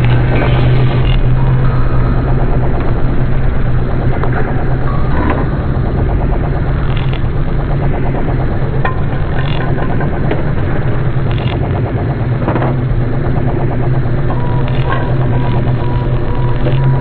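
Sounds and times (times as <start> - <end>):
engine humming with rattle: 0.0 - 17.0.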